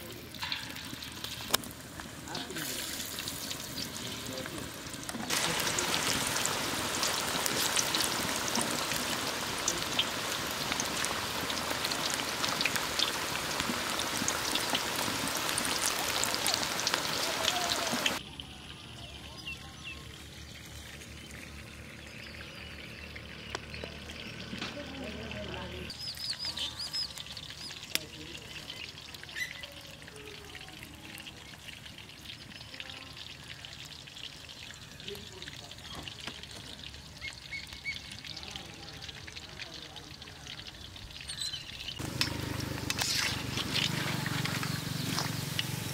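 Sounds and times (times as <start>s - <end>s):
deep-frying sizzle and crackling: 0.0s - 45.9s.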